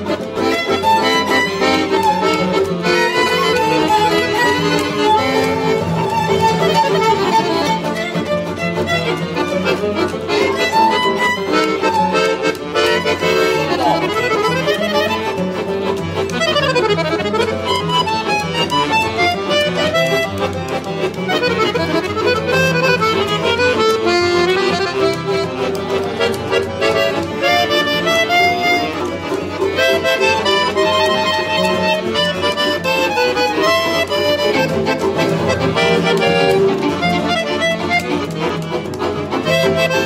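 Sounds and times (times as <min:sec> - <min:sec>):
accordion playing lively tune: 0:00.0 - 0:40.0.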